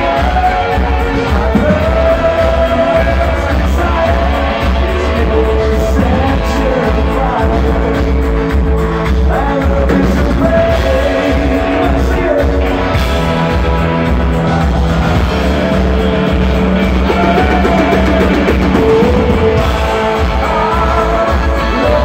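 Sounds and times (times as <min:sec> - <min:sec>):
bass guitar: 0:00.0 - 0:22.0
electric guitar: 0:00.0 - 0:22.0
male lead vocal: 0:00.0 - 0:22.0
steady drum beat: 0:00.0 - 0:22.0.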